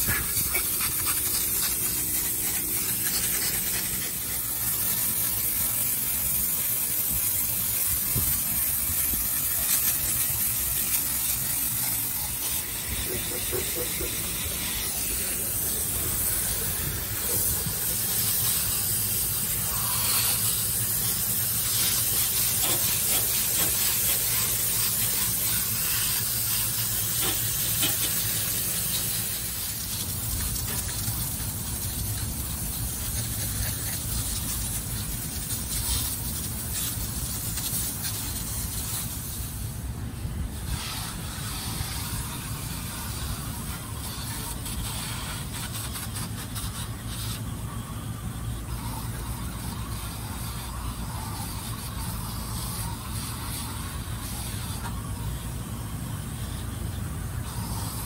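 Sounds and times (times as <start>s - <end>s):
hose nozzle spraying water: 0.0s - 58.0s.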